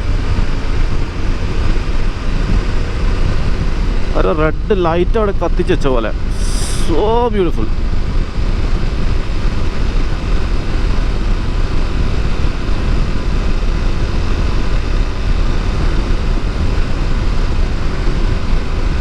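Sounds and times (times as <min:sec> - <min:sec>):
motorcycle engine cruising: 0:00.0 - 0:19.0
wind rumble on microphone: 0:00.0 - 0:19.0.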